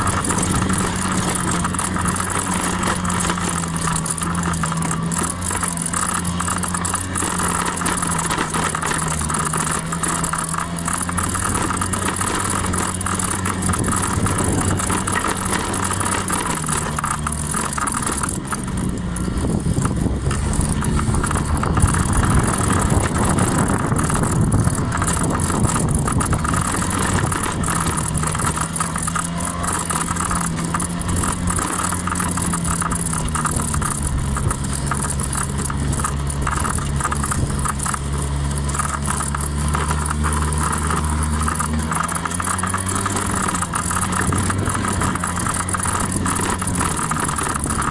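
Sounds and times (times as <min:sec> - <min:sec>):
scooter engine running: 0:00.0 - 0:47.9.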